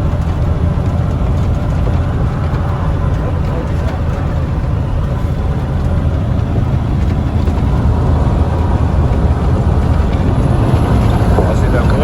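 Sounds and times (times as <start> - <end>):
diesel engine rumble: 0.0 - 12.0
road noise: 0.0 - 12.0.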